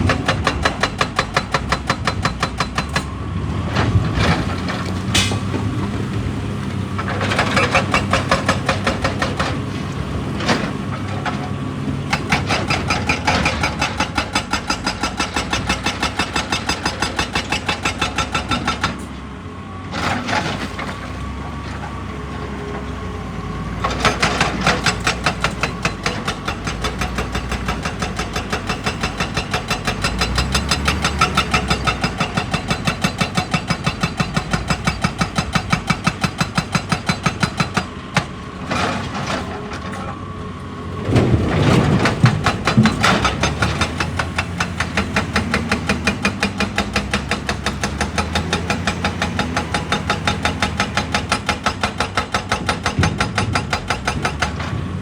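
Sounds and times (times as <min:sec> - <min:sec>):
hydraulic breaker hammering rock: 0:00.0 - 0:03.1, 0:07.0 - 0:09.7, 0:10.4 - 0:19.1, 0:23.9 - 0:40.0, 0:41.1 - 0:55.0.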